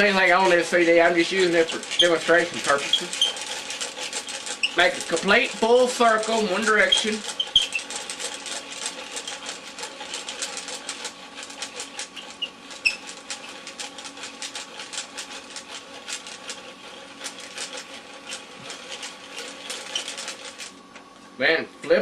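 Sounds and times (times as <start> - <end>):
hand-cranked mechanism clicking: 1.4 - 16.6, 17.2 - 20.7.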